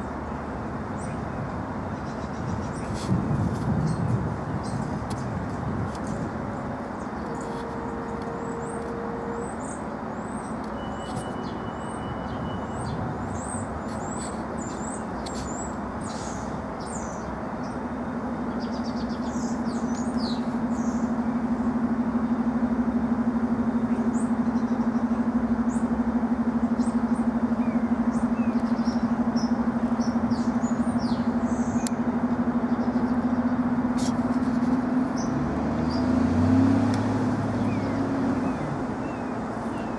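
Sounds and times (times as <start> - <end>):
vehicle rumble: 0.0 - 39.9
small birds chirping: 0.9 - 21.2, 26.6 - 39.9.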